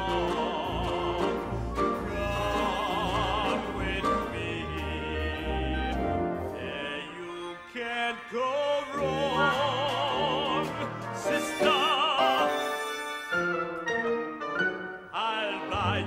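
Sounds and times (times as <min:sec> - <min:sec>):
man singing operatically: 0:00.0 - 0:13.4, 0:15.0 - 0:16.0
orchestra: 0:00.0 - 0:16.0.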